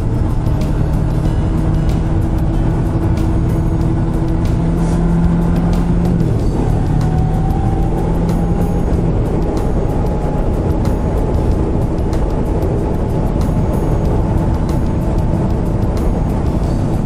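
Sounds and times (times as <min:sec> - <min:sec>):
motorcycle engine cruising: 0:00.0 - 0:17.0
wind noise: 0:00.0 - 0:17.0.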